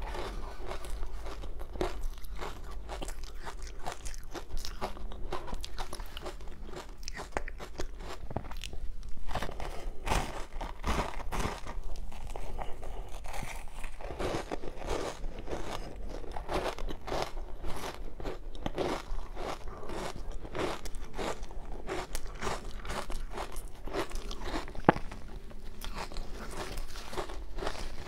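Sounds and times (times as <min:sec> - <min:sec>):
crunching ice being chewed: 0:00.0 - 0:28.0.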